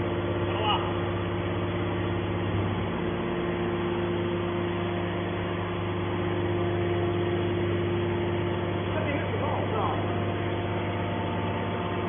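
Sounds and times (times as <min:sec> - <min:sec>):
metal baler machine hum: 0:00.0 - 0:12.0.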